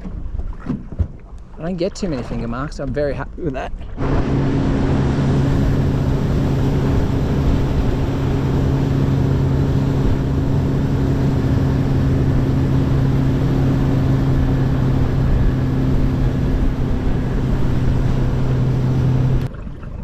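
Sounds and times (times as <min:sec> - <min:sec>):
wind and water noise: 0:00.0 - 0:20.0
outboard motor humming: 0:03.8 - 0:20.0.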